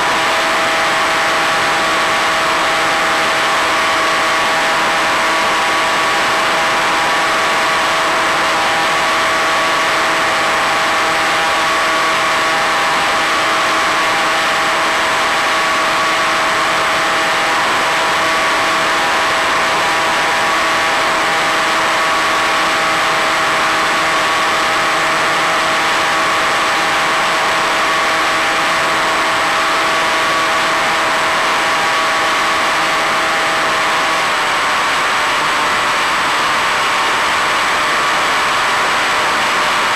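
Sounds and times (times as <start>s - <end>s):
model plane motor and propeller drone: 0.0s - 39.9s.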